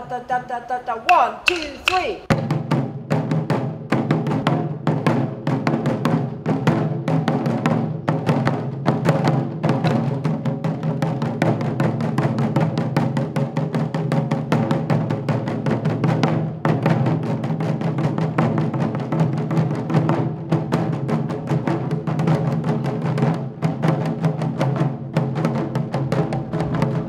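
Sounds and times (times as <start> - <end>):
taiko drums playing: 1.0 - 27.0.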